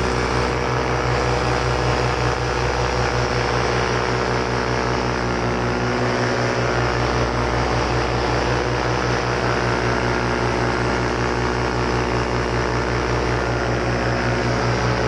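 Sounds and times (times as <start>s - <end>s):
paramotor engine droning: 0.0s - 15.0s.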